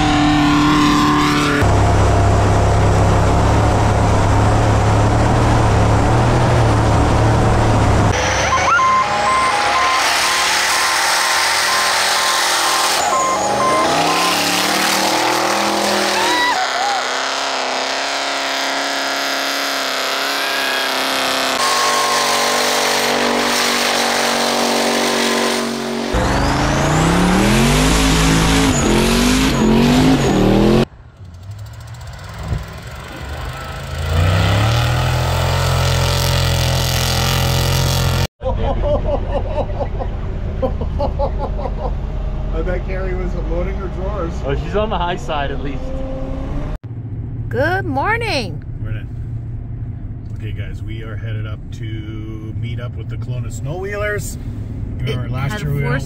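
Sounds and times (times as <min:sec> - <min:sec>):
truck engines revving hard: 0:00.0 - 0:38.3, 0:38.9 - 0:46.8, 0:52.6 - 0:56.0.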